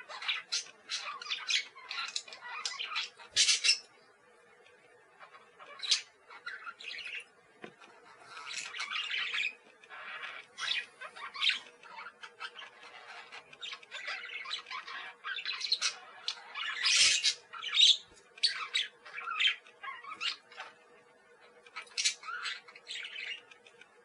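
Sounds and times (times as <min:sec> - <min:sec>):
parakeets calling: 0:00.0 - 0:04.1, 0:05.1 - 0:23.9.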